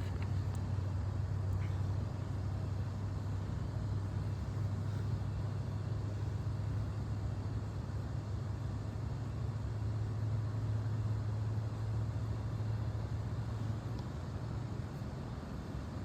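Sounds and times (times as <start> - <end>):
constant rumbling noise: 0.0 - 16.0
low mechanical hum: 0.0 - 16.0.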